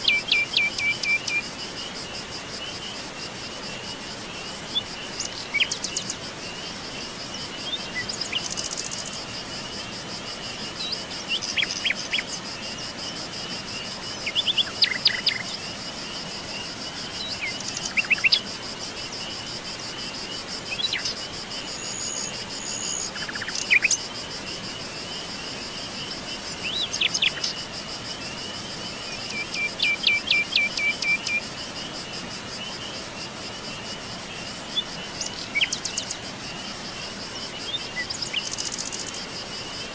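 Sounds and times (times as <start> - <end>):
forest birds chirping: 0.0 - 39.9
high insect trill: 0.0 - 39.9.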